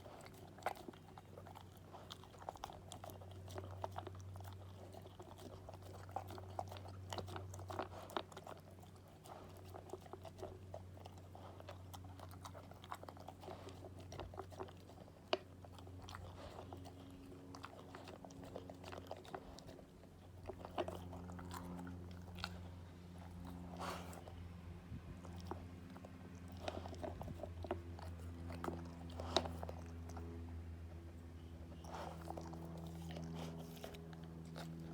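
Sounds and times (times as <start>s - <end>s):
dog chewing and crunching food: 0.0s - 34.9s
steady low hum: 0.0s - 34.9s.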